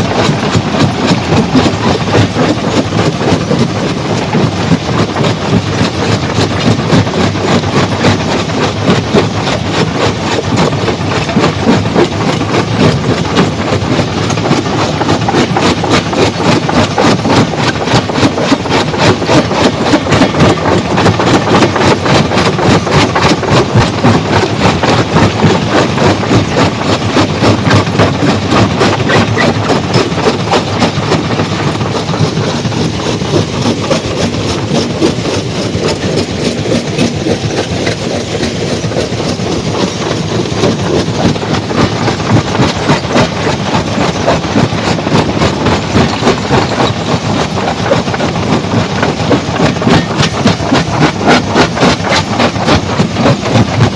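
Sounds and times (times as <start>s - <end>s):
stone crusher clattering: 0.0s - 53.9s.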